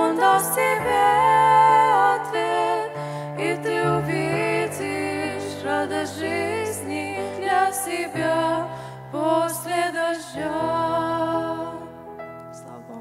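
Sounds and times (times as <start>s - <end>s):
grand piano: 0.0s - 13.0s
two girls singing: 0.0s - 13.0s.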